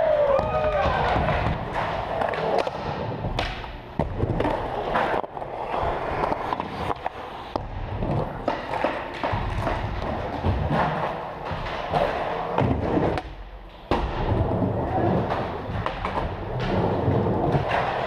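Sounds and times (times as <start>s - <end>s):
skateboard wheels rolling: 0.0s - 13.2s, 14.1s - 18.0s
skateboard clacks and knocks: 0.2s - 18.0s.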